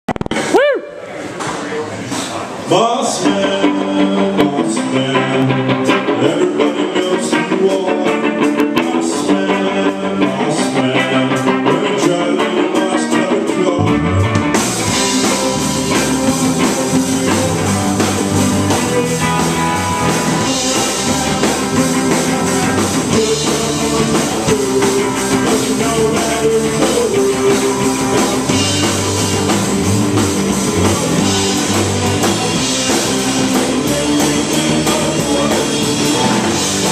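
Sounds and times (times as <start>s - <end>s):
rock band playing live: 0.1s - 1.1s, 2.1s - 36.9s
electric guitar: 3.1s - 36.9s.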